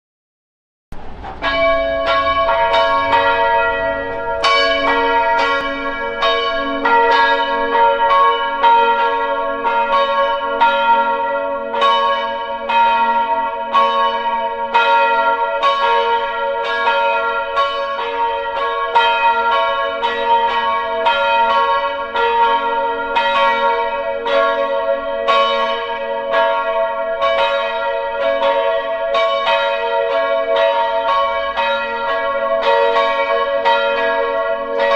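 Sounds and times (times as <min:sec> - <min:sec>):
church bells pealing: 0:01.0 - 0:34.9.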